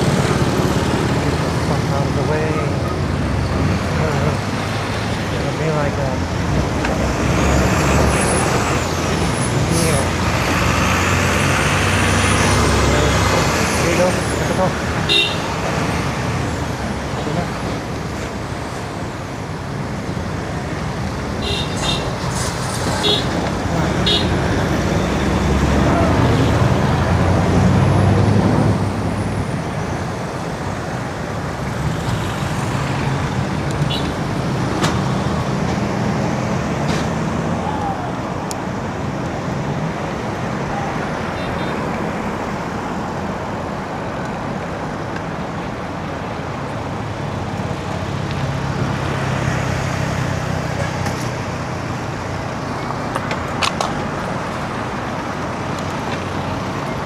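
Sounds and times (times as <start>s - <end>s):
passing vehicle engines: 0.0s - 57.0s
steady traffic noise: 0.0s - 57.0s.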